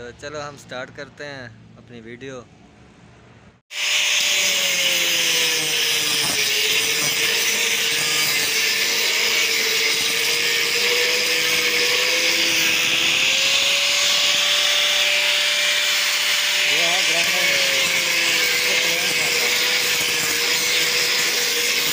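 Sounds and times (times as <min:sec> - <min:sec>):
angle grinder sanding wood: 0:03.7 - 0:21.9.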